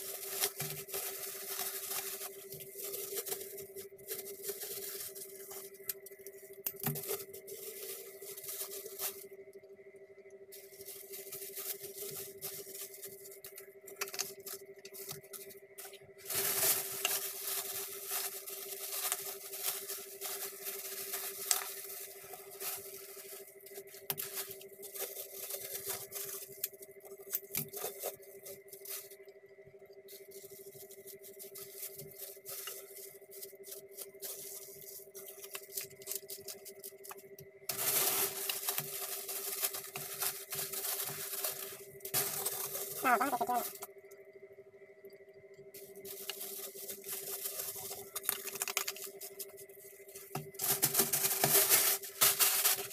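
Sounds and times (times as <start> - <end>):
plastic wrapping crinkling: 0.0 - 9.3, 10.5 - 29.2, 30.1 - 43.9, 45.8 - 52.9
faint hum: 0.0 - 52.9.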